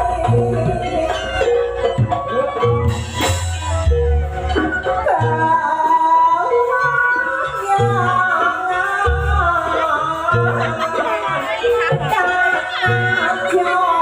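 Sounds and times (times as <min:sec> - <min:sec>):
live traditional ensemble music: 0:00.0 - 0:14.0
sliding vocal melody: 0:00.0 - 0:14.0.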